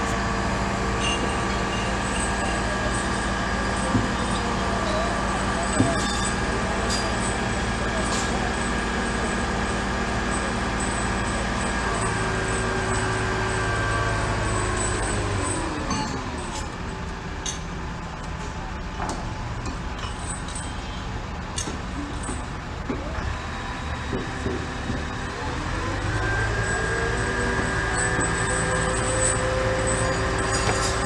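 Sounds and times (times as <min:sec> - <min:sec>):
crane engine running: 0:00.0 - 0:31.0.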